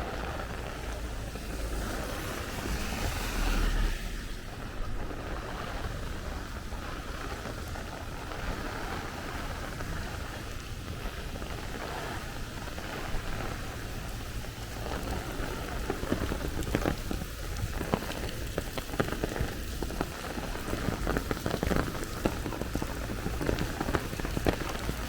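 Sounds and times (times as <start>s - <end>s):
heavy rain falling: 0.0s - 25.0s
wind rumbling on microphone: 0.0s - 25.0s.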